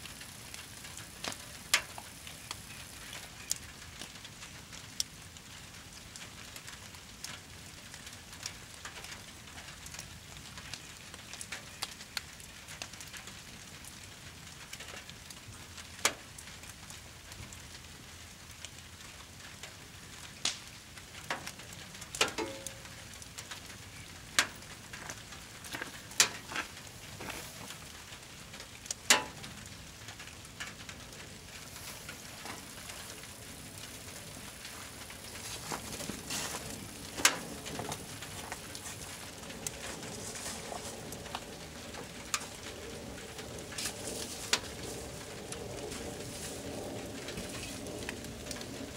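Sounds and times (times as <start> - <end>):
fire crackling and popping: 0.0 - 48.9
rain hissing: 0.0 - 48.9.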